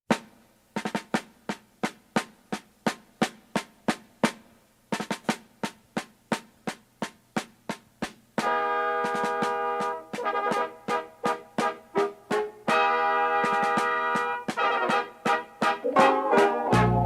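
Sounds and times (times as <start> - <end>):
snare drum march cadence: 0.1 - 17.0.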